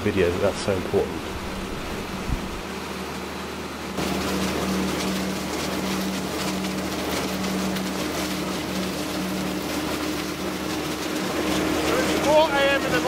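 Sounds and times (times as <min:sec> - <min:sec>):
grape harvester running: 0:00.0 - 0:13.0.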